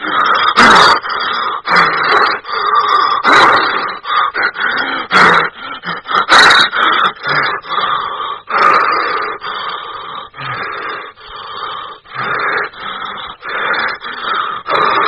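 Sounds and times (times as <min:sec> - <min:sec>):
heavy raspy breathing: 0:00.0 - 0:15.0.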